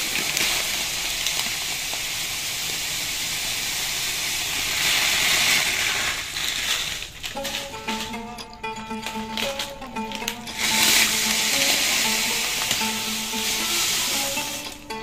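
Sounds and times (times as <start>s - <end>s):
sugar pouring into water: 0.0s - 8.0s, 9.1s - 15.0s.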